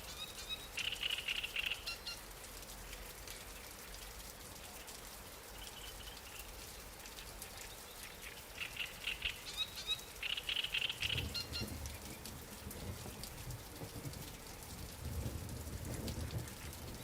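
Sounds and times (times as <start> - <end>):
light rain falling on water: 0.0 - 17.0.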